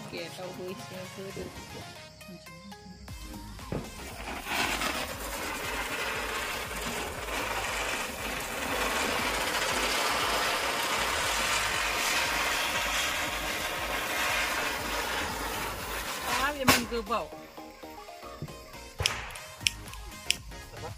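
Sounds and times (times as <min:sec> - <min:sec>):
ground firework fizzing hiss: 0:00.0 - 0:20.9.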